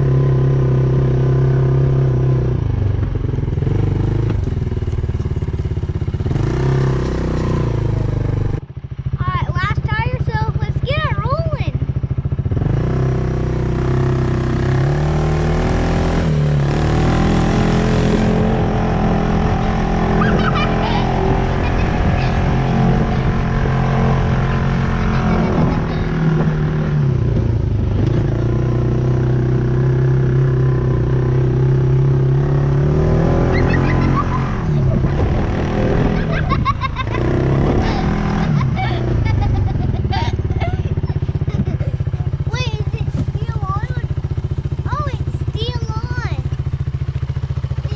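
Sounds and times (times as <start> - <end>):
off-road vehicle engine running: 0.0 - 47.9.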